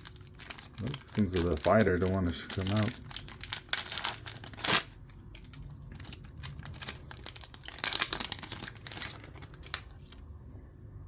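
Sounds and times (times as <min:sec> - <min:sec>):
plastic wrapper crinkling and tearing: 0:00.0 - 0:10.2.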